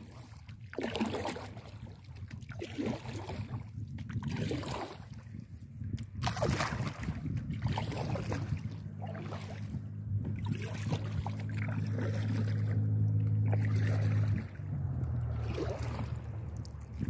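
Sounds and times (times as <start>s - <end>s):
kayak paddle splashing water: 0.0s - 17.0s.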